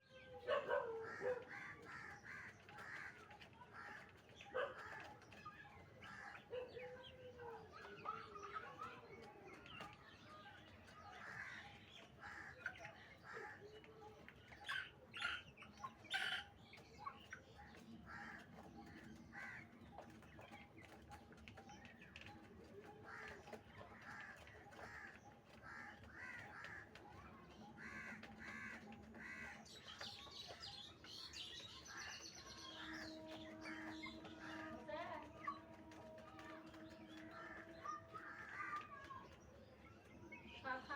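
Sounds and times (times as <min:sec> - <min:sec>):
birds calling: 0:00.4 - 0:40.9.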